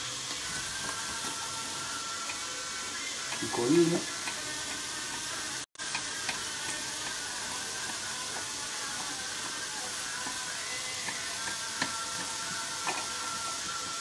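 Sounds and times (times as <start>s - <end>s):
onions sizzling in a pot: 0.0s - 14.0s.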